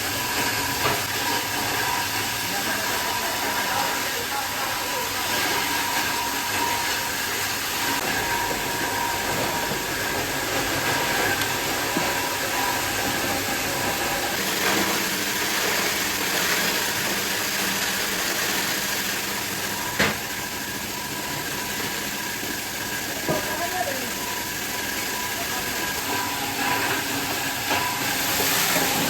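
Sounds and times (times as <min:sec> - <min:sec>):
factory machinery running: 0:00.0 - 0:29.0.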